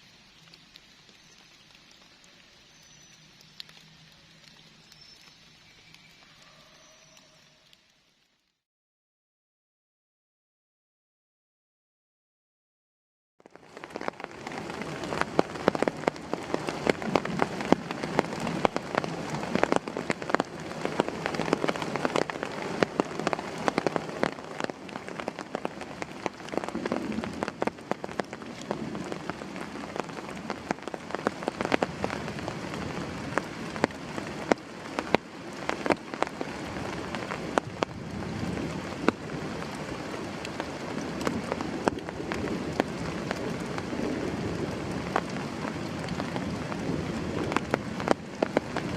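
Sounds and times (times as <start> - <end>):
heavy rain falling: 0.0 - 8.6, 13.4 - 48.9
large raindrops tapping: 0.0 - 8.6, 13.4 - 48.9.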